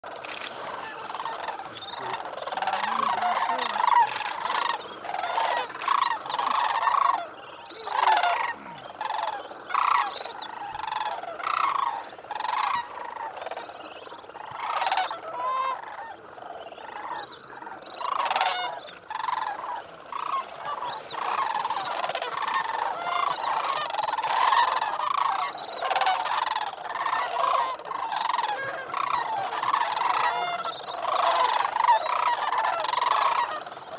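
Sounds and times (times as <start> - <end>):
cranes calling: 0.1 - 33.9.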